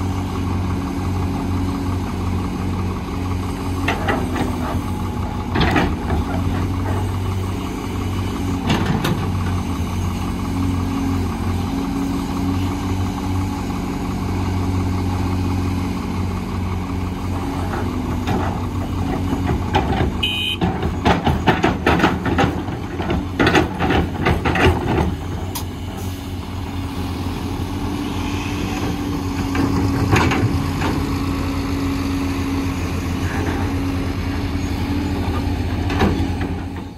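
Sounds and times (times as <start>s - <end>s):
excavator diesel engine: 0.0s - 36.9s.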